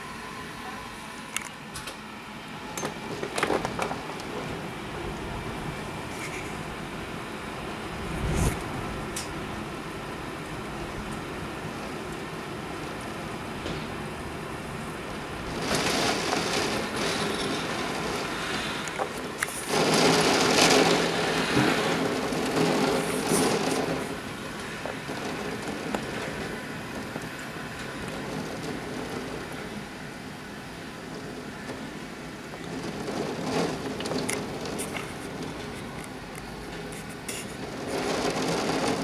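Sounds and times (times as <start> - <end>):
wind-driven rain surges: 0.0 - 39.0
steady rain: 1.1 - 39.0.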